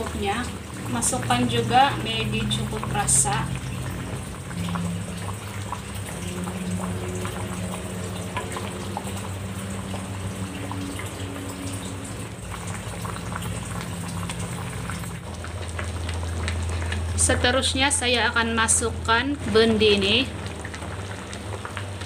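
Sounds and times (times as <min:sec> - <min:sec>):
curry bubbling in a wok: 0:00.0 - 0:22.0
low steady hum: 0:00.0 - 0:22.0.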